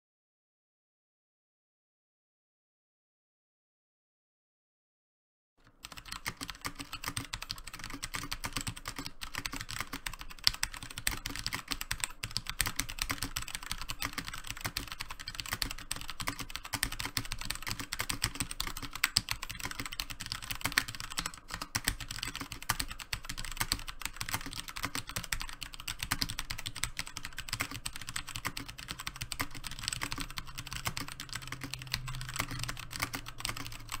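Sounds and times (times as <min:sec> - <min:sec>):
mechanical keyboard typing: 0:05.6 - 0:34.0.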